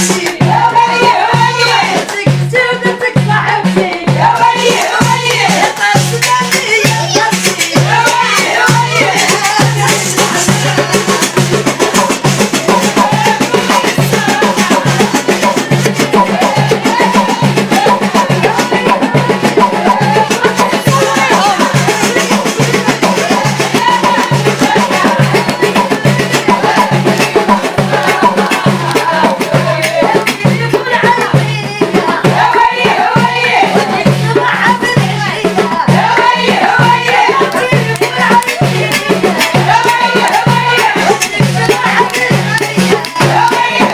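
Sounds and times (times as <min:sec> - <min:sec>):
woman singing folk song: 0:00.0 - 0:11.7, 0:12.6 - 0:43.9
drum and percussion beat: 0:00.0 - 0:43.9.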